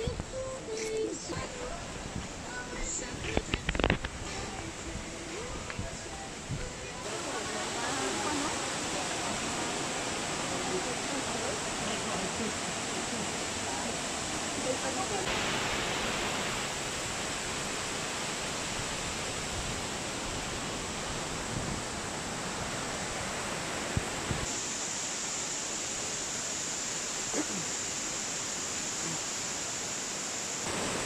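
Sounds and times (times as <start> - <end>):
waterfall rushing over rocks: 0.0 - 31.0.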